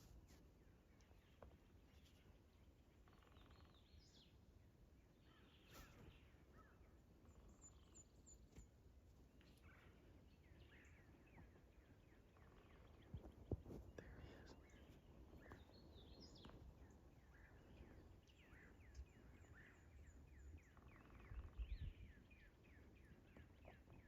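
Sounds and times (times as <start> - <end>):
faint songbirds chirping: 0.0 - 24.0.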